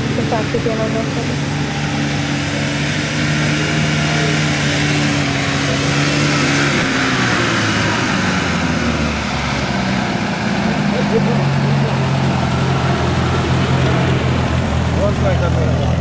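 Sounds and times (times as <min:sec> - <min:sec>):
vehicle engine revving: 0:00.0 - 0:16.0.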